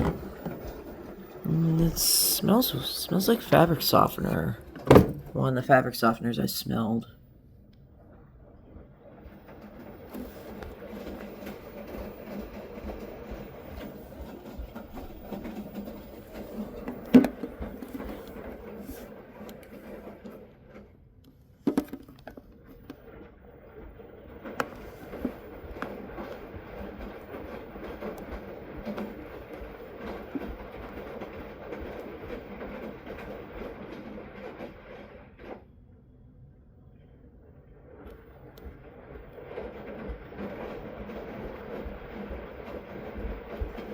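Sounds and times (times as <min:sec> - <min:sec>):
washing machine sloshing: 0:00.0 - 0:07.0, 0:08.0 - 0:21.2, 0:21.8 - 0:35.8, 0:37.5 - 0:43.9.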